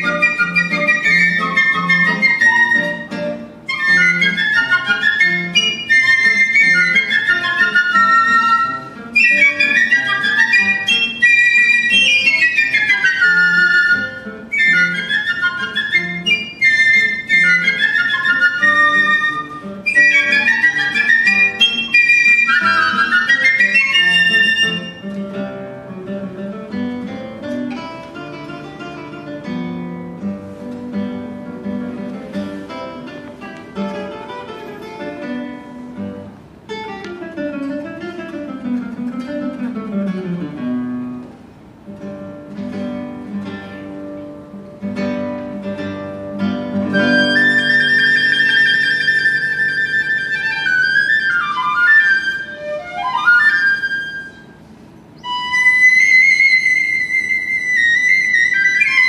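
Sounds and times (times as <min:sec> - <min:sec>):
classical guitar: 0:00.0 - 0:59.0.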